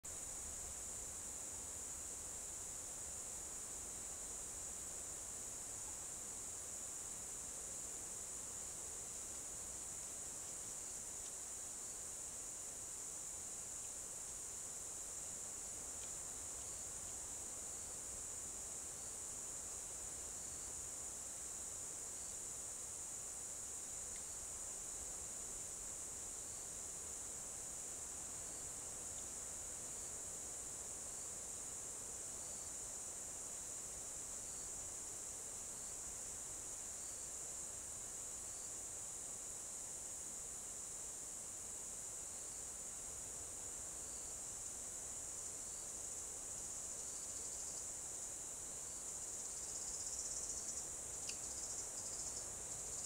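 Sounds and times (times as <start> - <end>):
chorus of forest insects: 0.0 - 53.0.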